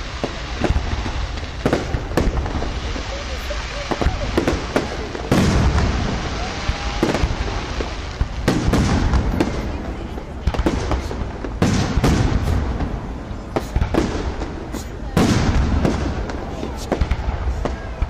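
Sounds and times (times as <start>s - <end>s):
firework cracks and crackling: 0.0s - 18.0s
firework shells booming: 0.0s - 18.0s.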